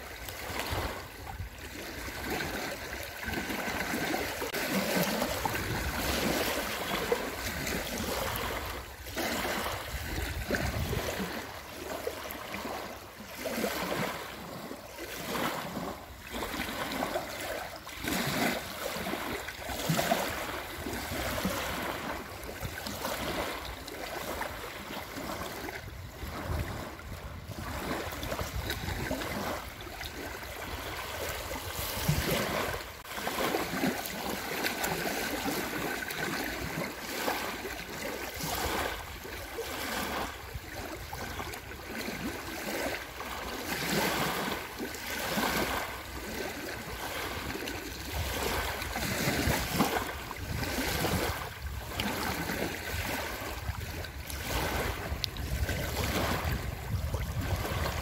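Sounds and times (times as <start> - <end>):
waves lapping on sandy shore: 0.0 - 58.0.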